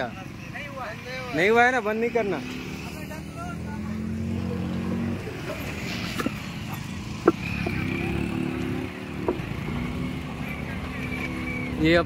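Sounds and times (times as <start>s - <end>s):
motorcycle engines at low revs: 0.0s - 12.0s.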